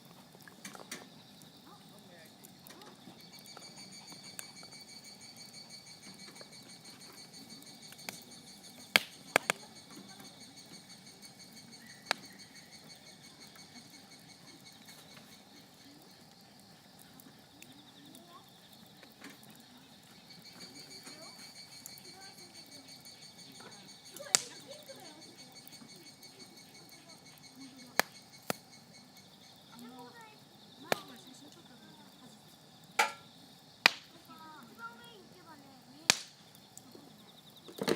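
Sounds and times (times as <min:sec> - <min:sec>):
crickets trilling: 0:00.0 - 0:37.9
wood fire crackling and popping: 0:00.0 - 0:37.9.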